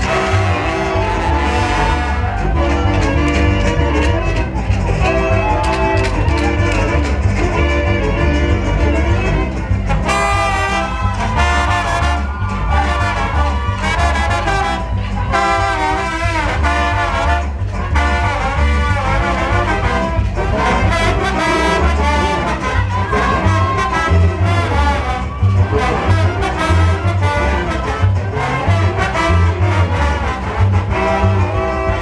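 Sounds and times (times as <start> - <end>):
brass horn lines: 0.0 - 32.0
pulsing bass beat: 0.0 - 32.0.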